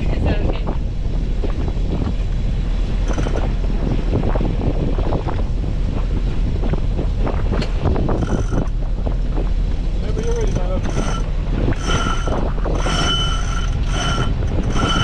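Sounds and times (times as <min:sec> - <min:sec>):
boat engine running: 0:00.0 - 0:15.0
wind buffeting microphone: 0:00.0 - 0:15.0.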